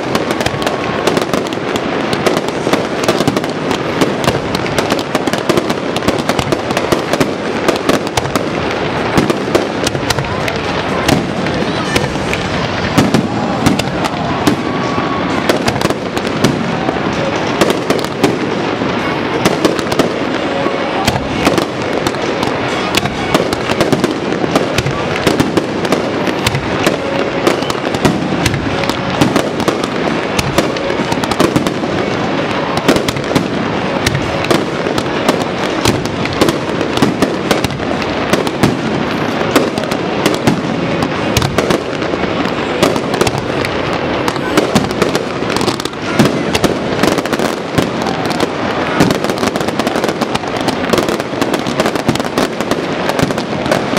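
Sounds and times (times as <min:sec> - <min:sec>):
fireworks crackle: 0:00.0 - 0:53.9
fireworks pops and bangs: 0:00.0 - 0:53.9.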